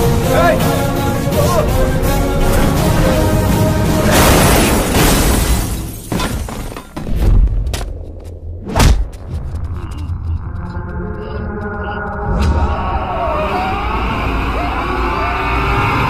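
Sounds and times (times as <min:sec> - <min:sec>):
dramatic background score: 0:00.0 - 0:05.1, 0:07.0 - 0:16.0.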